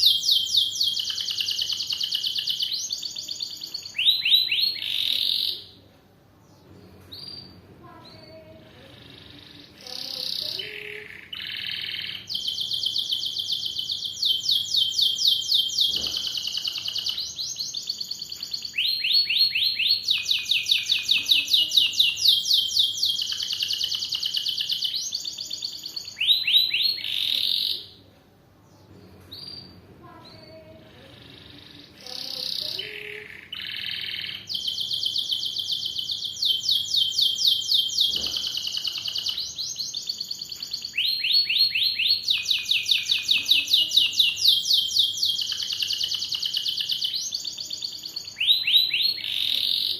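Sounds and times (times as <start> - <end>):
canary singing trills: 0.0 - 5.8, 6.4 - 28.0, 28.7 - 49.9.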